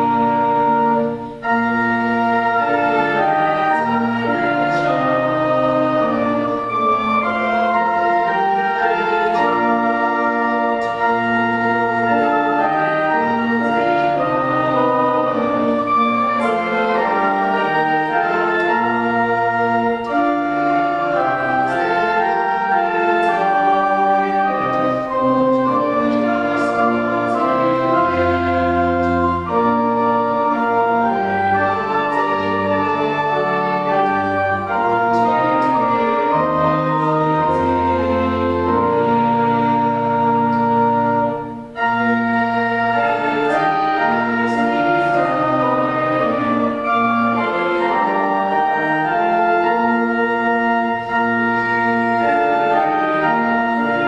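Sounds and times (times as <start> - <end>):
church organ playing a hymn: 0.0 - 54.0.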